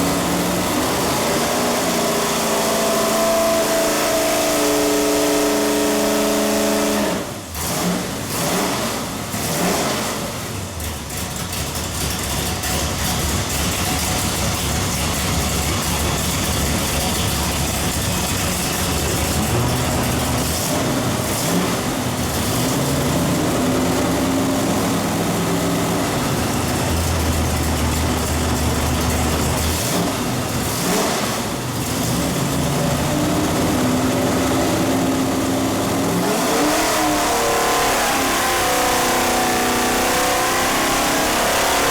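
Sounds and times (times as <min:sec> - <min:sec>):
boat engine running on dyno: 0:00.0 - 0:10.1, 0:12.6 - 0:41.9.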